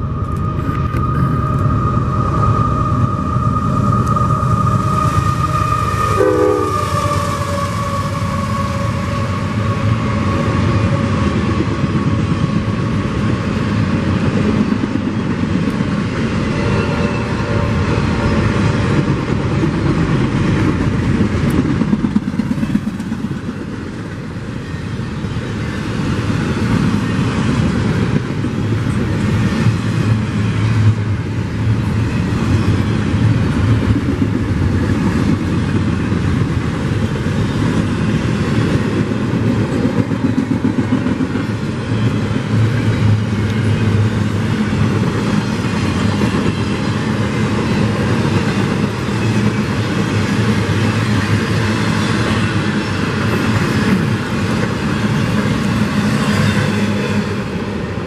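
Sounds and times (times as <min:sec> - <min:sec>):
train wheels clattering on rail: 0:02.7 - 0:58.0.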